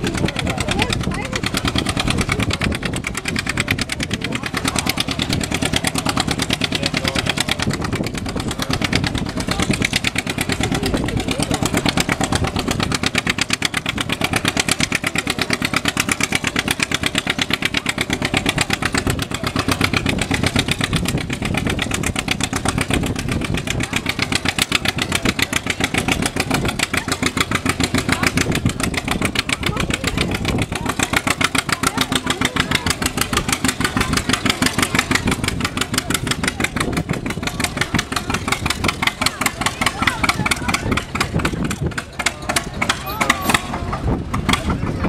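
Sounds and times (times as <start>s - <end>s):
tractor engine running loud: 0.0s - 45.0s.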